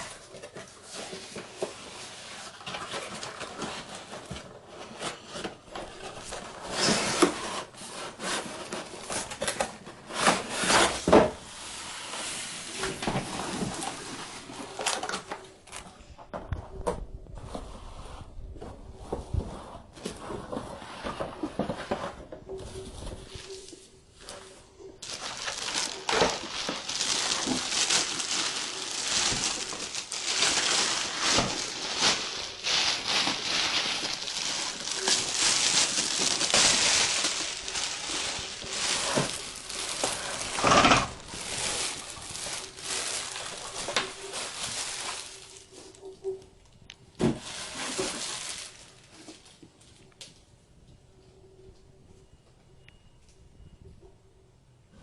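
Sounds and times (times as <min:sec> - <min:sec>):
packaging crinkling and rustling: 0:00.0 - 0:18.0, 0:18.6 - 0:50.4.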